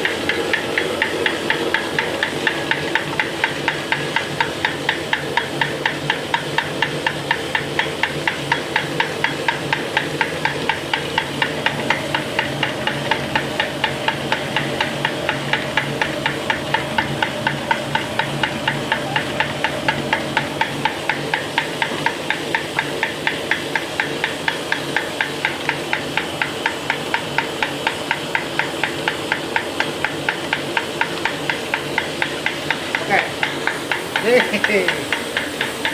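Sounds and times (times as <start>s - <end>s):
machine mechanical hum: 0.0s - 35.9s
sharp even machine clicks: 0.2s - 35.9s.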